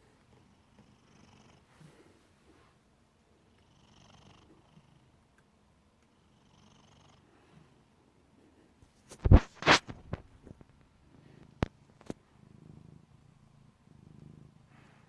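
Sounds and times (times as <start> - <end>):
cat snoring faintly: 0.0 - 2.8, 3.4 - 5.3, 6.1 - 9.9, 11.0 - 15.0.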